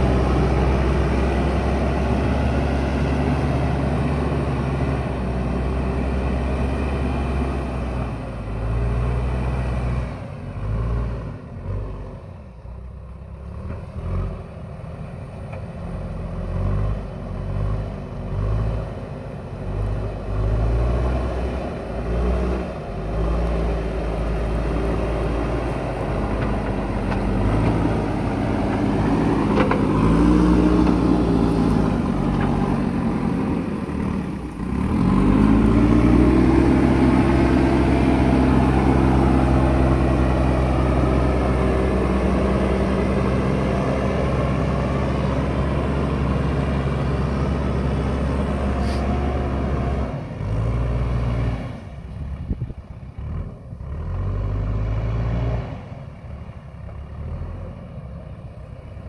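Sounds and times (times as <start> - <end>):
diesel engine under load: 0.0 - 59.0.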